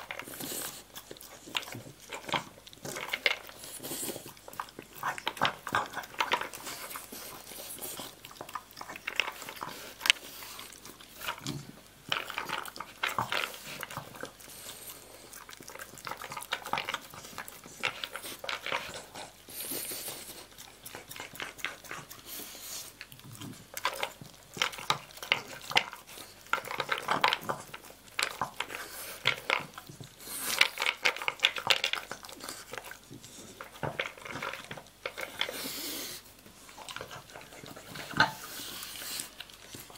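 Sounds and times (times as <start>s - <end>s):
dog chewing: 0.0s - 39.9s.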